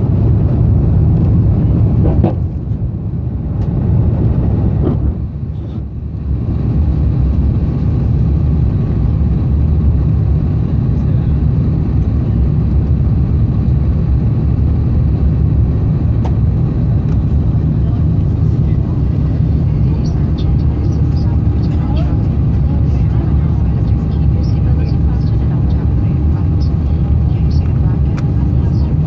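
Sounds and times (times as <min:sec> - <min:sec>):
airplane cabin engine roar: 0:00.0 - 0:29.0.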